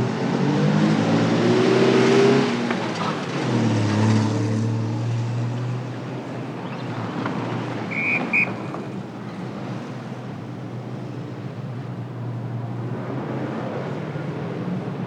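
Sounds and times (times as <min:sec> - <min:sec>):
engine passing: 0:00.0 - 0:15.0.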